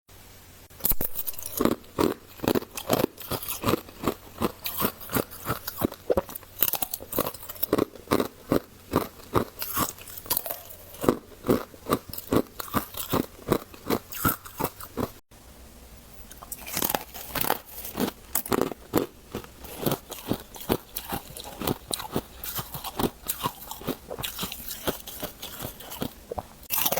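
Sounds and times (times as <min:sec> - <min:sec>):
crunching and chewing ice: 0:00.8 - 0:15.2, 0:16.3 - 0:26.9.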